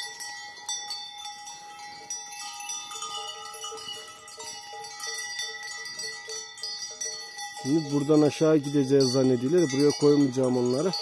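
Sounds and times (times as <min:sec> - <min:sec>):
cowbells clanking: 0:00.0 - 0:11.0.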